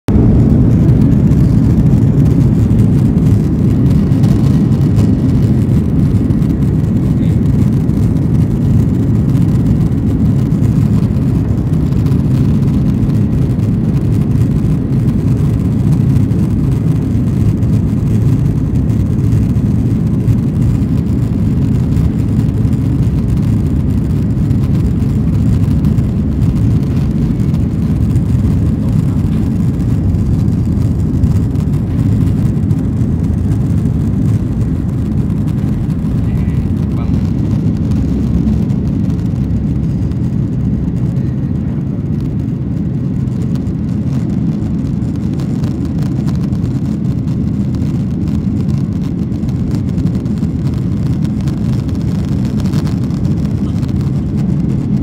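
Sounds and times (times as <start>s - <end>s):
airplane landing rumble: 0.0s - 55.0s.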